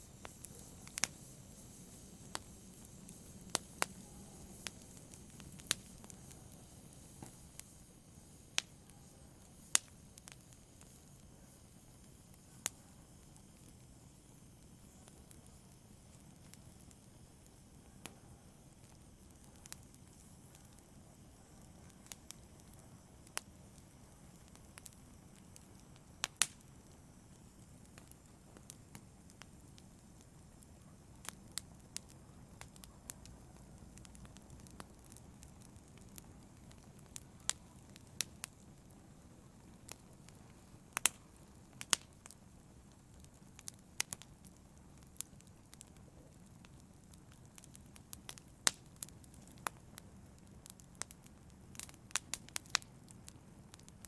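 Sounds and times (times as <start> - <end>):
fire flames rumbling: 0.0 - 11.6, 21.5 - 54.0
fire crackling and popping: 0.0 - 54.0.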